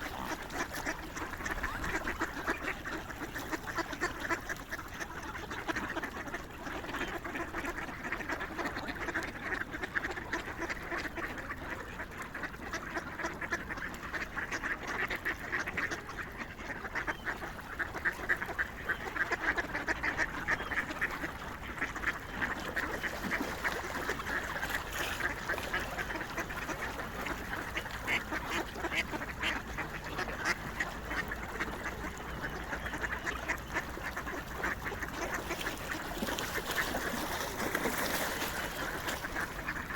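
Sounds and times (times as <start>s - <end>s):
waterfowl quacking and honking: 0.0s - 39.9s.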